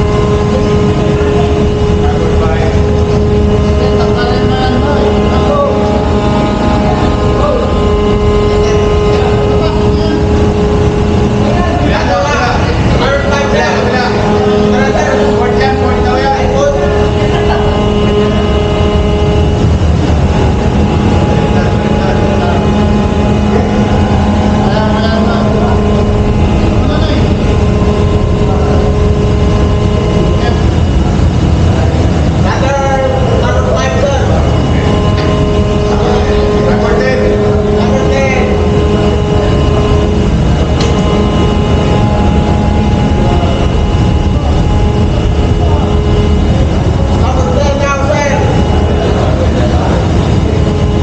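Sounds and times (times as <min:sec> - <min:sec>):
steering gear machinery drone: 0:00.0 - 0:51.0.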